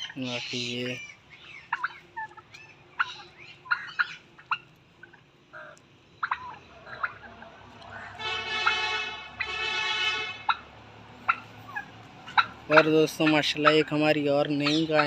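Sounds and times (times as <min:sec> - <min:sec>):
turkey gobbling: 0:00.0 - 0:15.0
turkeys calling: 0:00.0 - 0:15.0.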